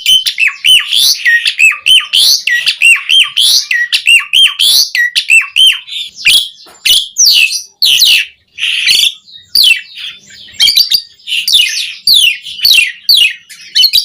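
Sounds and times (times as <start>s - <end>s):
starling singing: 0.0s - 14.0s.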